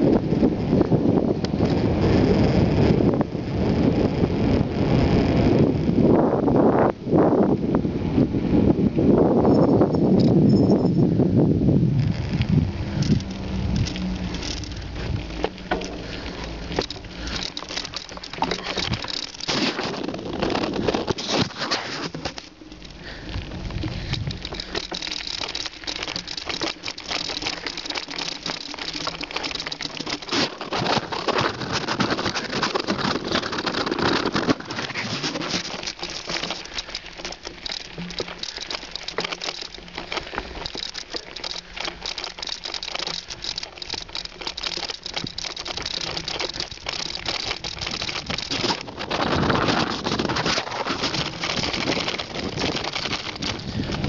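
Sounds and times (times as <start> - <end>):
bicycle tyres crackling on grit: 0.0 - 54.0
bike and camera rattling: 0.0 - 54.0.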